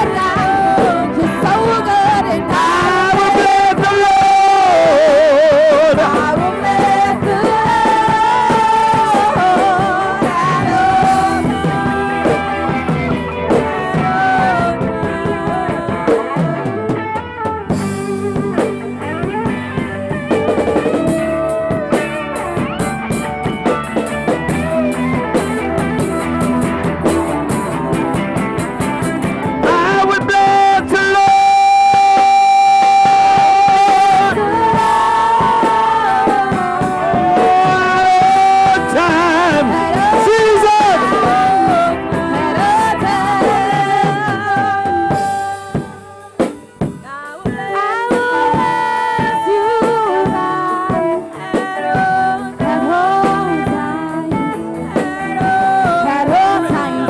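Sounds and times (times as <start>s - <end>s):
voices singing: 0.0s - 23.4s, 28.8s - 57.0s
bass guitar: 0.0s - 57.0s
drums: 0.0s - 57.0s
electric guitars: 0.0s - 57.0s.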